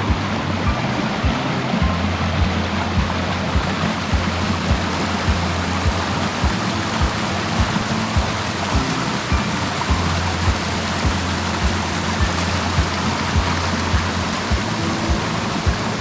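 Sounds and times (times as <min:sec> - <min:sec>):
background music with low beat: 0:00.0 - 0:16.0
rushing mountain stream: 0:00.0 - 0:16.0.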